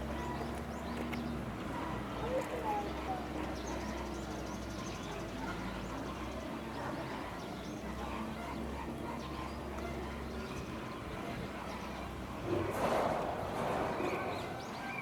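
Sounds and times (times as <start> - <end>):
murmur of distant voices: 0.0 - 15.0.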